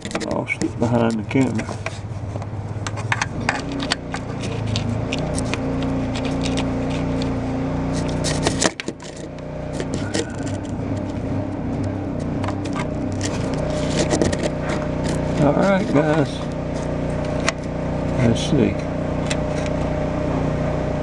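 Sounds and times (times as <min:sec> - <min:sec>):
knocks and scrapes from handling: 0:00.0 - 0:19.9
low motor hum: 0:00.0 - 0:21.0.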